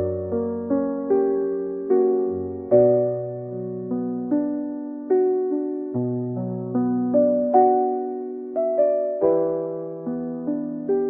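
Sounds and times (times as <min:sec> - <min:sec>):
soft piano keyboard music: 0:00.0 - 0:11.0.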